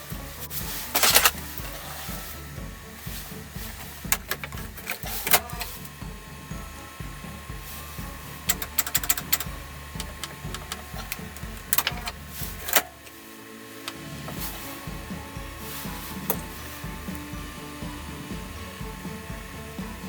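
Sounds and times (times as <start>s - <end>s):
steady pulsing low hum: 0.0s - 20.0s.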